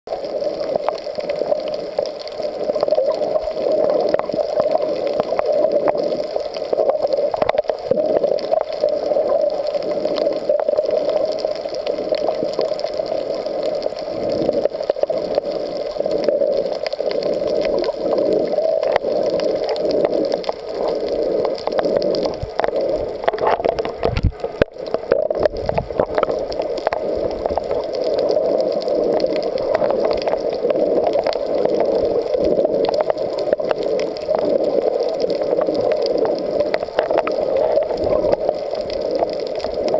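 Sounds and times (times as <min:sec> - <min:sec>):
muffled underwater water noise: 0:00.1 - 0:39.9.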